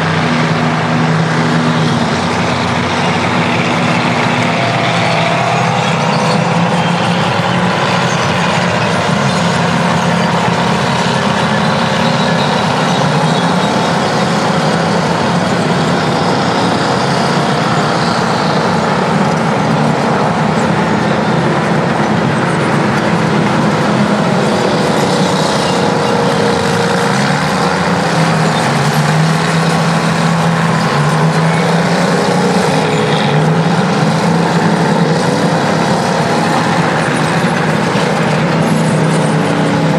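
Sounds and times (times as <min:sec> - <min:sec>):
earthmoving machine diesel engines: 0:00.0 - 0:39.9.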